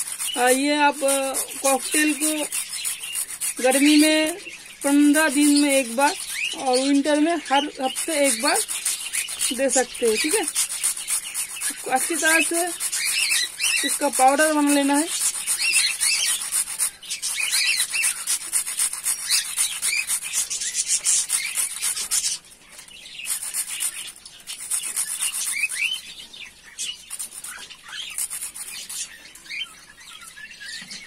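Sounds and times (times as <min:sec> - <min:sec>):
rusk rasping on metal grater: 0:00.0 - 0:26.1, 0:27.0 - 0:29.6
birds chirping: 0:00.0 - 0:31.0.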